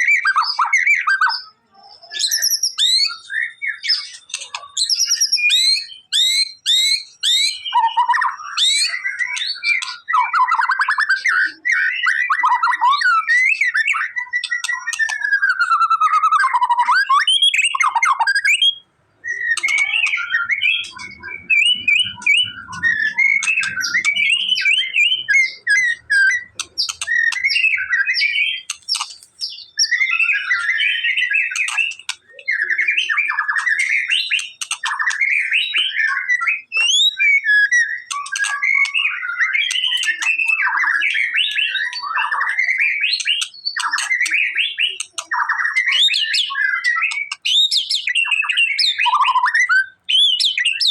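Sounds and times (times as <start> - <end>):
bird singing whistled song: 0.0 - 50.9.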